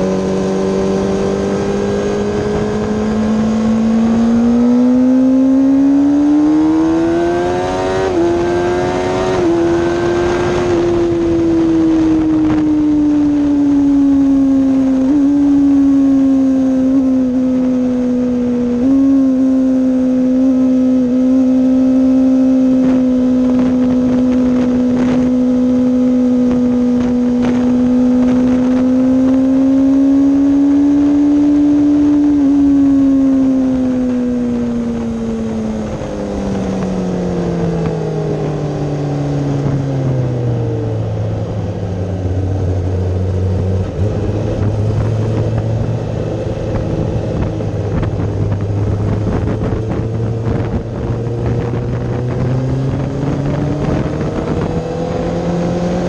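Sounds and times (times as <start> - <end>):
wind rush: 0.0 - 4.6, 6.0 - 19.2, 22.6 - 56.0
motorcycle engine revving and downshifting: 0.0 - 56.0.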